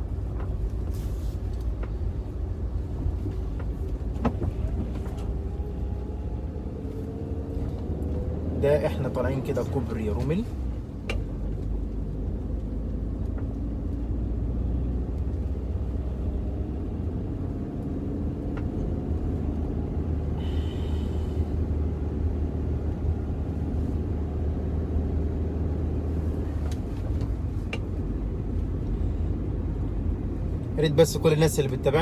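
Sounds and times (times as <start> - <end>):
car driving on road: 0.0 - 32.0.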